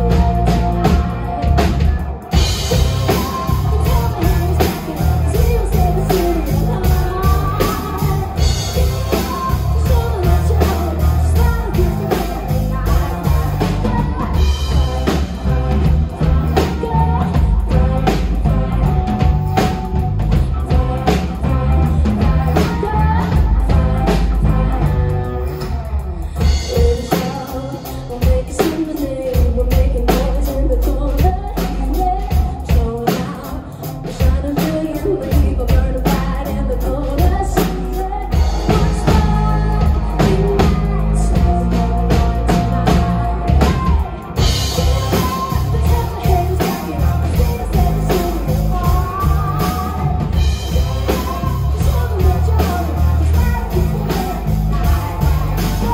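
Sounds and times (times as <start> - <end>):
bass guitar: 0.0 - 55.9
drum kit: 0.0 - 55.9
electric guitars: 0.0 - 55.9
woman singing into microphone: 0.0 - 55.9.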